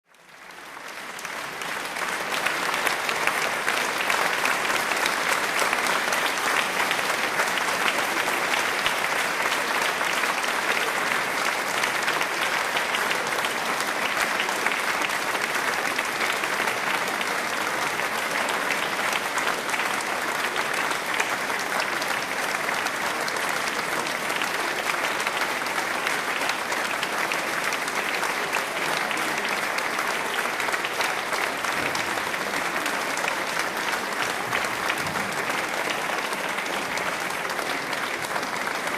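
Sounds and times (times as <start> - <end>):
crowd applauding: 0.0 - 38.9.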